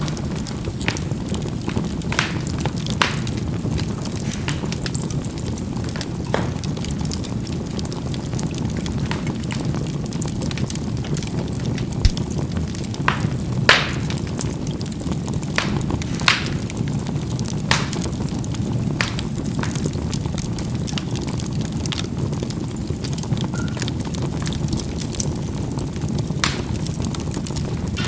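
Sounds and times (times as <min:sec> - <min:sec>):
charcoal burning rush: 0:00.0 - 0:28.0
coals popping and crackling: 0:00.0 - 0:28.0.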